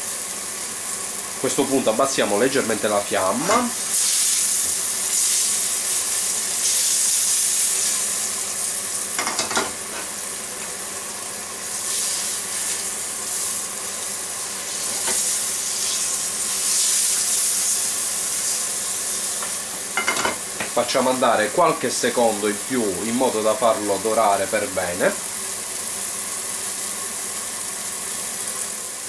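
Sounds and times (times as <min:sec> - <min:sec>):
meat sizzling in frying pan: 0:00.0 - 0:29.0.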